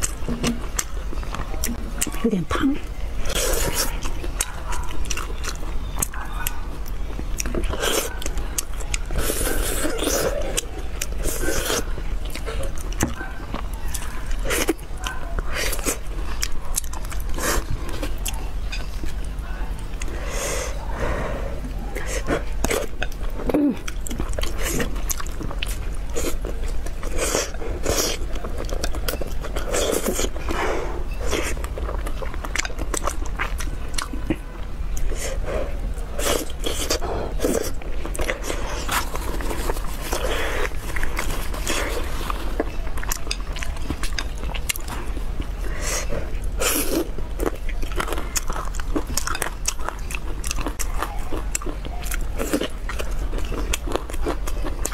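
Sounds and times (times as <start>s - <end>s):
wet chewing with mouth clicks: 0.0s - 21.0s, 21.6s - 54.9s.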